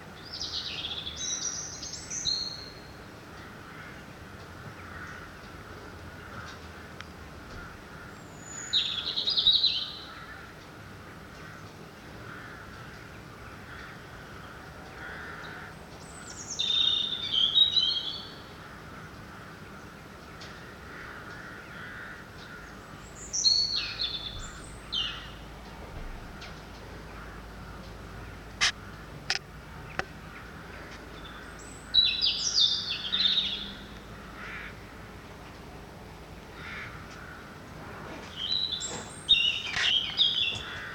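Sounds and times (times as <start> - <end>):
songbird singing: 0.0 - 40.9
distant crows cawing: 3.4 - 9.2, 9.9 - 17.4, 18.3 - 35.4, 36.5 - 40.9.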